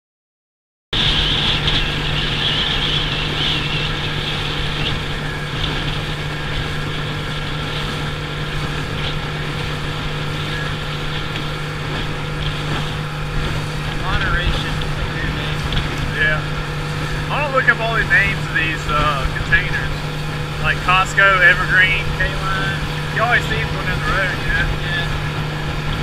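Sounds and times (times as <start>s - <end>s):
motorboat engine humming: 0.9s - 26.0s
wind and water rushing: 1.0s - 26.0s.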